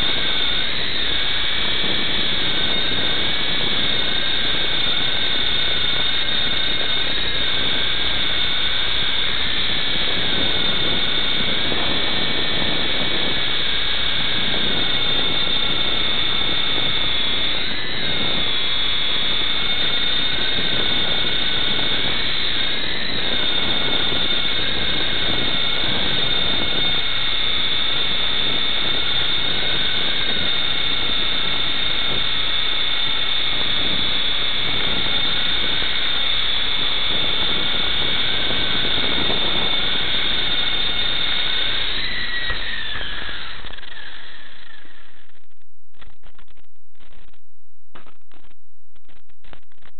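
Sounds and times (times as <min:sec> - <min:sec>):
rc helicopter rotors whining: 0:00.0 - 0:45.4.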